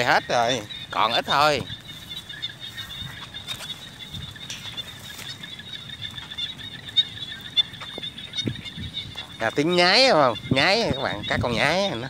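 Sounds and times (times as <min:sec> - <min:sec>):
frogs trilling: 0:00.0 - 0:12.0.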